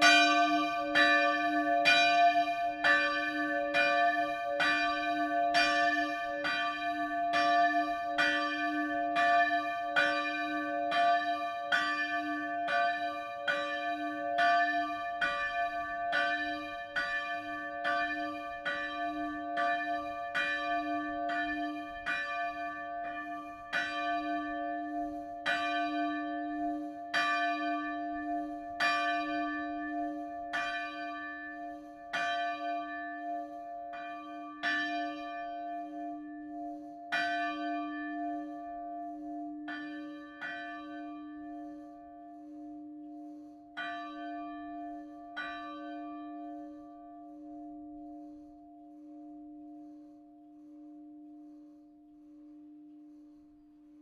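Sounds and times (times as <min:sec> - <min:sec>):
church bell ringing: 0:00.0 - 0:51.3.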